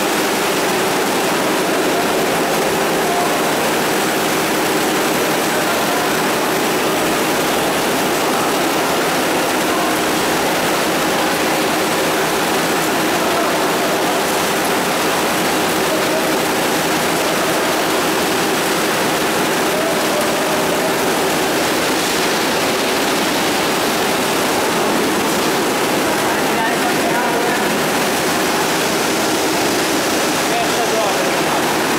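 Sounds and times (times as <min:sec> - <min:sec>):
faint machine hum: 0:00.0 - 0:31.9.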